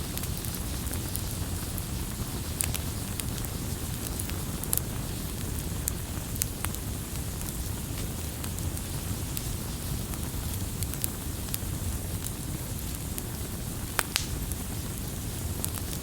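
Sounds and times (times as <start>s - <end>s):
campfire burning: 0.0s - 16.0s
fire crackling: 0.0s - 16.0s
sharp fire pops: 0.0s - 16.0s.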